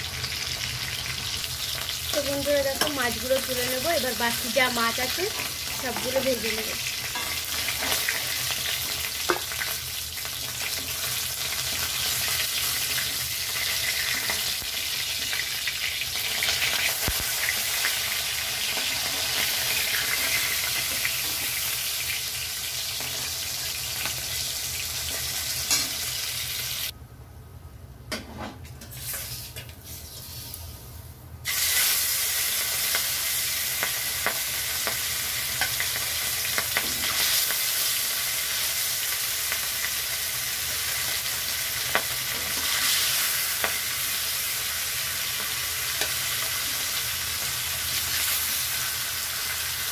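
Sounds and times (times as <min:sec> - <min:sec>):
fish sizzling in hot oil: 0:00.0 - 0:26.9, 0:31.5 - 0:49.9.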